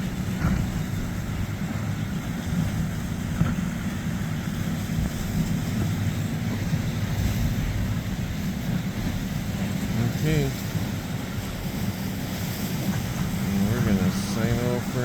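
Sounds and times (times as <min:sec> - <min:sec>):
motorboat engine rumble: 0:00.0 - 0:15.0
wind on microphone: 0:00.0 - 0:15.0.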